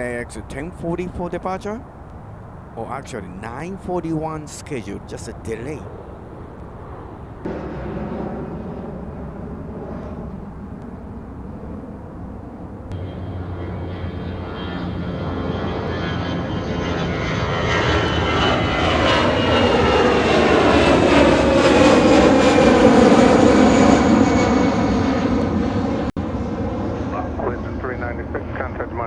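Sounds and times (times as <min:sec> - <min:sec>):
jet airliner taking off: 0:00.0 - 0:29.0.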